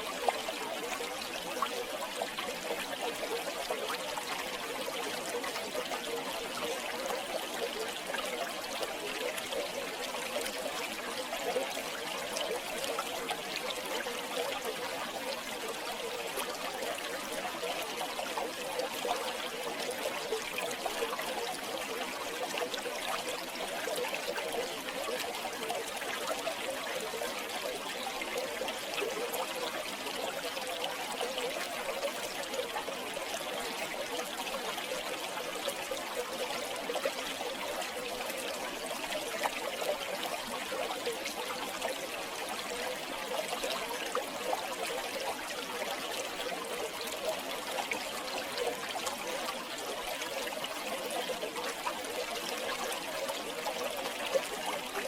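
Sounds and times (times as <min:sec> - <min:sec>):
river water babbling: 0:00.0 - 0:55.0.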